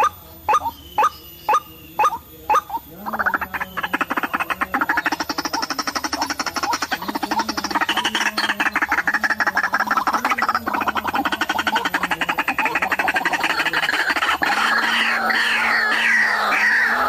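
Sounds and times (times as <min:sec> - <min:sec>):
waterhen croaks and squawks: 0:00.0 - 0:17.0.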